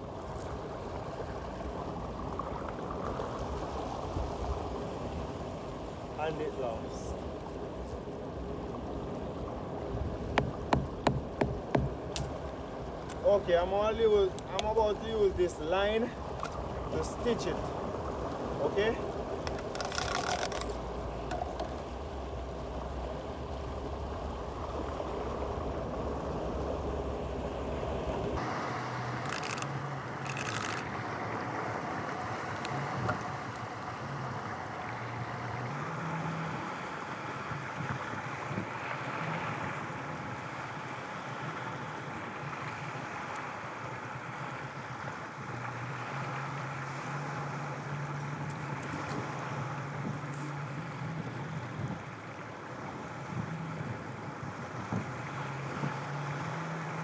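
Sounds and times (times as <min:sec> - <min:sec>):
wind rumble on microphone: 0:00.0 - 0:46.3, 0:48.0 - 0:57.0
water: 0:00.0 - 0:57.0
wind: 0:00.0 - 0:57.0.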